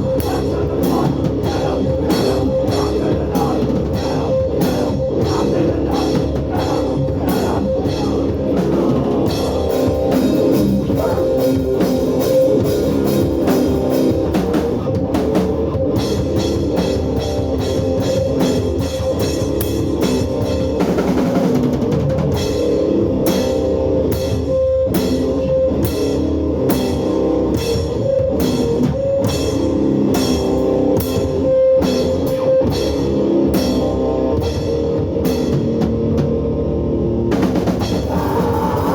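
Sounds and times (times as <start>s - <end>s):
fast pounding drums: 0.0s - 36.5s, 37.3s - 38.9s
distorted guitar and bass: 0.0s - 38.9s.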